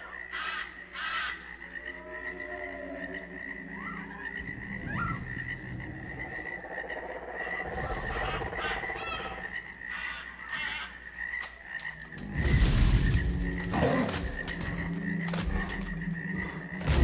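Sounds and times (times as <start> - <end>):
frog-like croaking chorus: 0.0 - 17.0.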